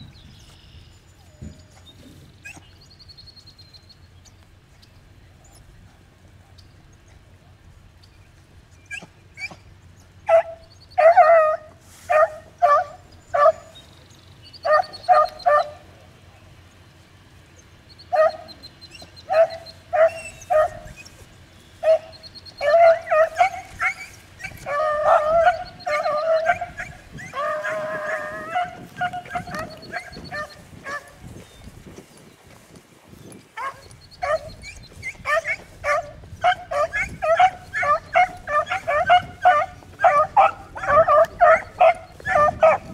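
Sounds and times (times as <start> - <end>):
beagles barking and baying: 1.1 - 4.3, 8.3 - 42.9.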